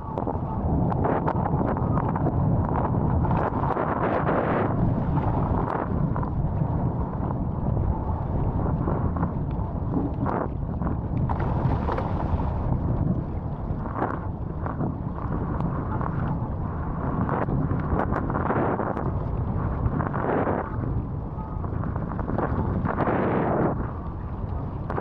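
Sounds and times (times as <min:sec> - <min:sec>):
wind buffeting microphone: 0:00.0 - 0:25.0
rushing water: 0:03.3 - 0:25.0.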